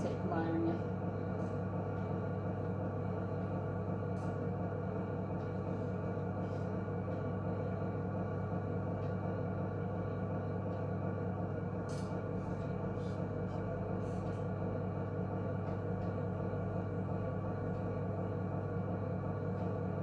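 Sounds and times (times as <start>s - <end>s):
potter's wheel motor humming: 0.0s - 20.0s.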